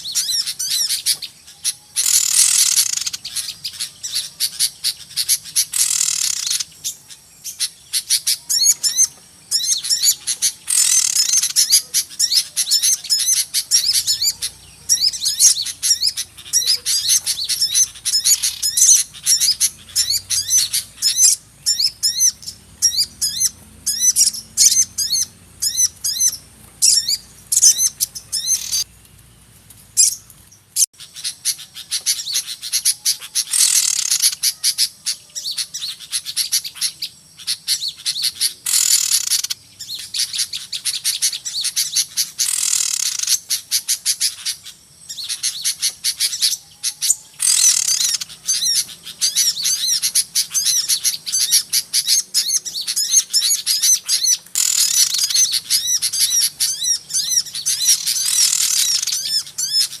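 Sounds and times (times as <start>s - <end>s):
small birds chirping in chorus: 0.0s - 60.0s.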